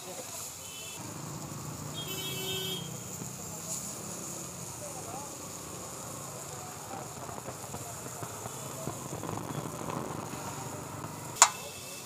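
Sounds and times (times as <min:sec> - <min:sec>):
fish sizzling on a griddle: 0:00.0 - 0:12.0.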